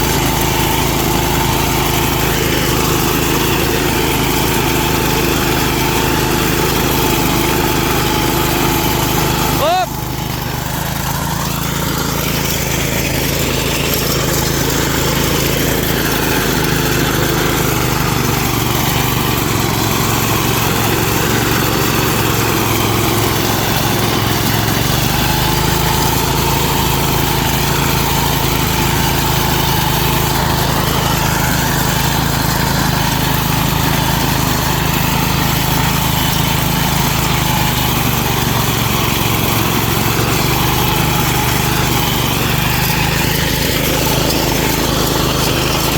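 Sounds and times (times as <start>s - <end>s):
small engine running: 0.0s - 45.9s.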